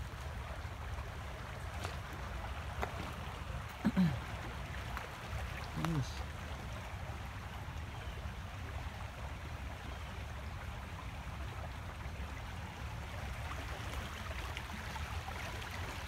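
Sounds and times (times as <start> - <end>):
water rushing in trench: 0.0 - 16.0.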